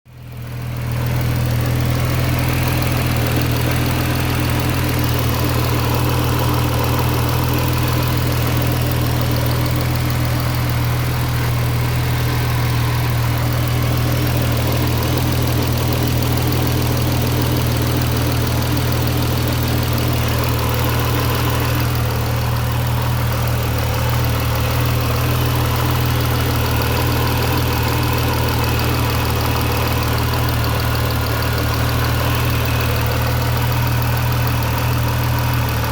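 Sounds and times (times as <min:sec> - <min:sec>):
car engine idling with rattle: 0:00.1 - 0:35.9.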